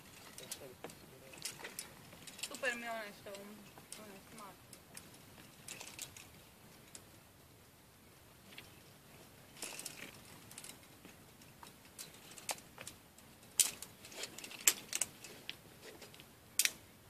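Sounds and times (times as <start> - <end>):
climbing gear clinking: 0.0 - 7.1, 9.5 - 16.8.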